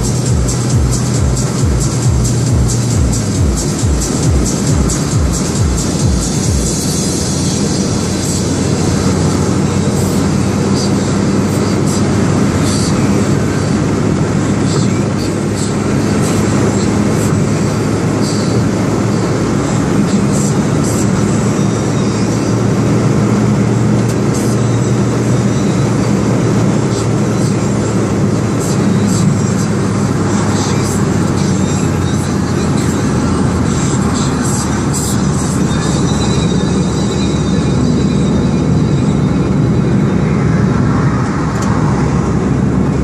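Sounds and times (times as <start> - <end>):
car engine drone: 0.0 - 43.0
tyre and road rumble: 0.0 - 43.0.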